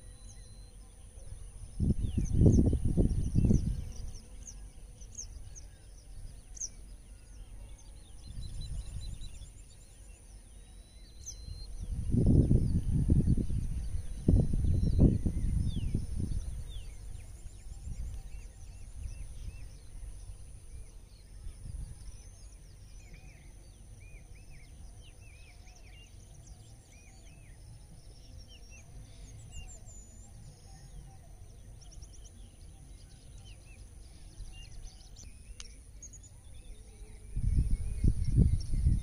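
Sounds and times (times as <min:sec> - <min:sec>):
small birds chirping: 0:00.0 - 0:39.0
wind rumble on microphone: 0:00.0 - 0:39.0.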